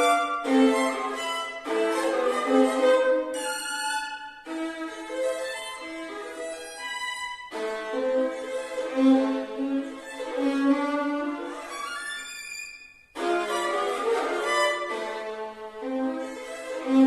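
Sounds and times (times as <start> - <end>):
violin playing melody: 0.0 - 17.0.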